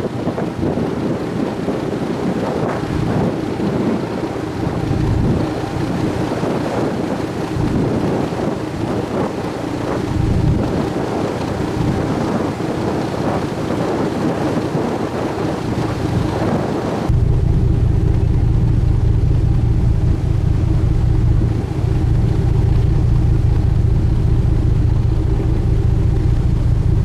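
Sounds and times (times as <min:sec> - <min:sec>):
boat engine hum: 0:00.0 - 0:27.0
sea water rushing: 0:00.0 - 0:27.0
wind buffeting microphone: 0:00.0 - 0:27.0.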